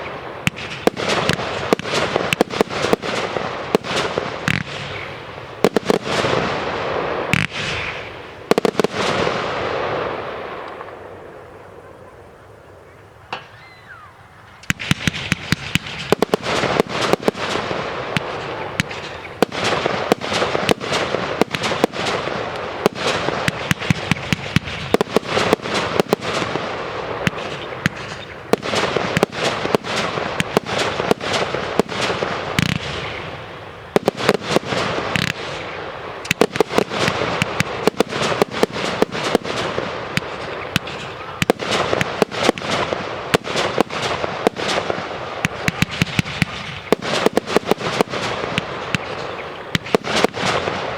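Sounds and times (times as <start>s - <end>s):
firework bursts and bangs: 0.0s - 13.9s, 14.5s - 50.9s
fireworks crackling: 0.0s - 50.9s.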